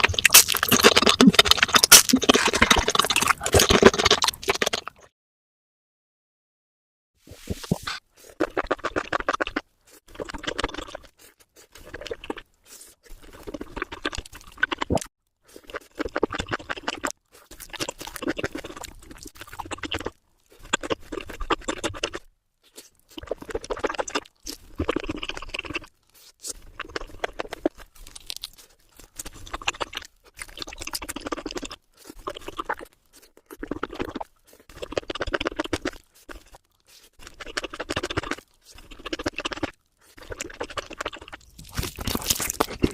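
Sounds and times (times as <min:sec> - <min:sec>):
crunching and chewing crisp food: 0:00.0 - 0:05.1, 0:08.0 - 0:42.9.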